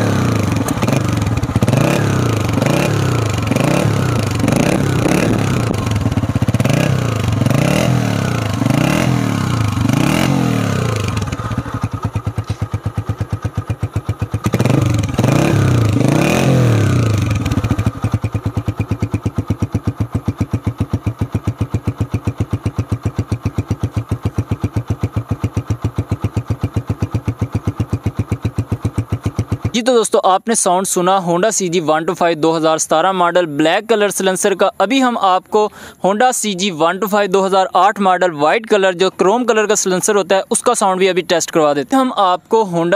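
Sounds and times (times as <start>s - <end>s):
motorcycle engine revving and idling: 0.0s - 35.3s.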